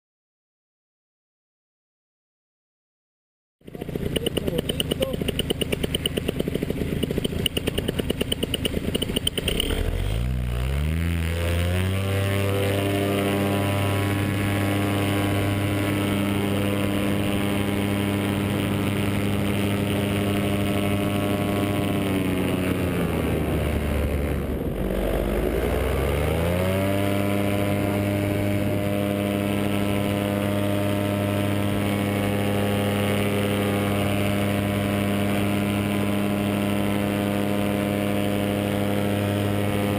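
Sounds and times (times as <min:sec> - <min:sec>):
paramotor engine revving: 0:03.6 - 0:39.9.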